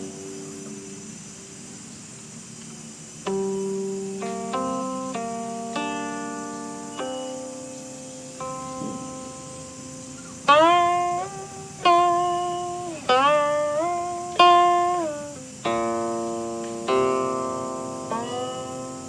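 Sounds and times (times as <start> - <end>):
plucked zither notes sliding: 3.3 - 19.0.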